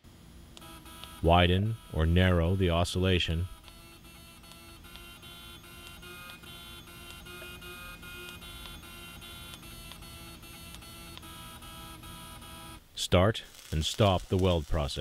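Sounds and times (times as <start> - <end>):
high electric whine: 0.0 - 15.0.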